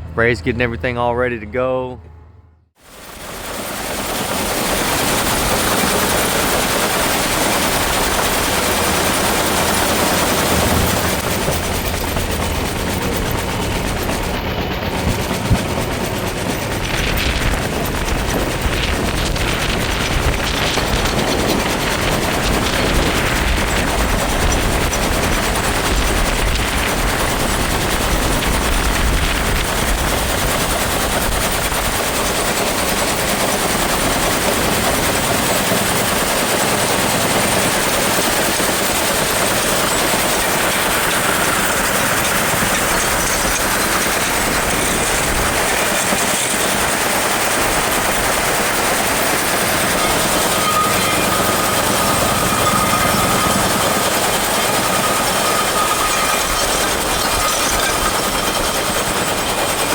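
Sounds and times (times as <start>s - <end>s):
wind buffeting microphone: 4.9s - 36.2s, 39.4s - 59.9s.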